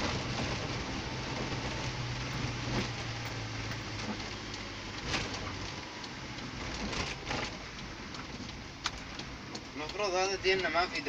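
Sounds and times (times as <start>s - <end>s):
car engine hum: 0.0s - 11.0s
windscreen wipers swishing: 0.0s - 11.0s.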